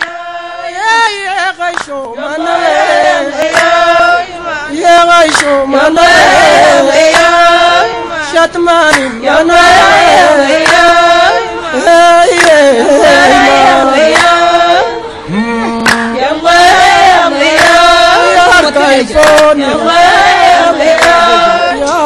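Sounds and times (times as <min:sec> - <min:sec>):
voices singing a chant: 0:00.0 - 0:22.0.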